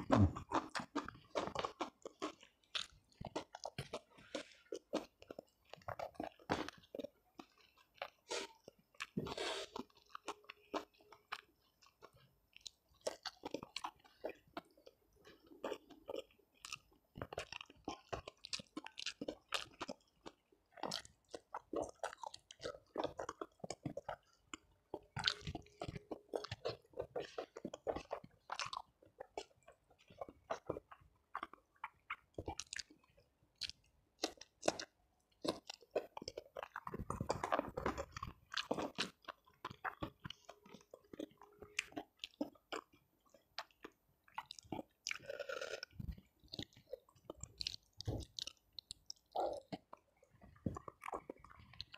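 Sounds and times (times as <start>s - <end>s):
wet crunchy chewing: 0.0s - 51.9s.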